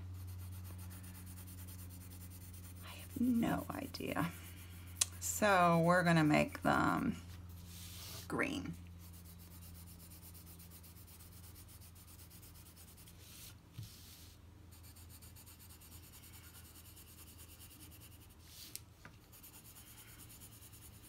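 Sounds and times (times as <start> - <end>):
colored pencil scratching on paper: 0.0 - 21.0
steady low hum: 0.0 - 21.0.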